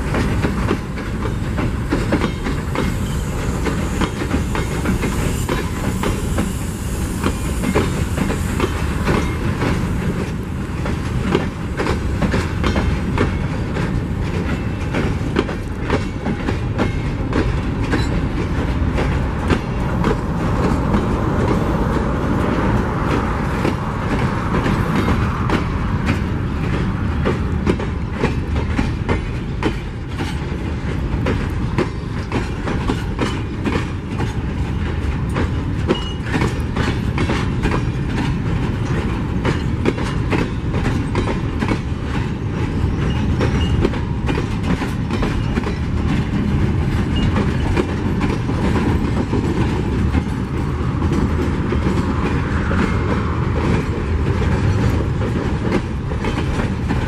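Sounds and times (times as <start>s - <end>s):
wheels clicking over rail joints: 0.0s - 6.6s, 7.2s - 57.0s
train wheels rumbling: 0.0s - 57.0s.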